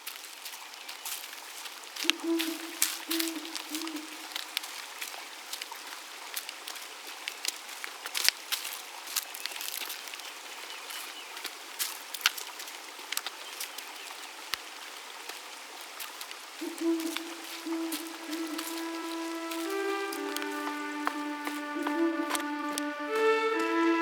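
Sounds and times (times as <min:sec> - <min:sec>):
trickling water with drips: 0:00.0 - 0:24.0.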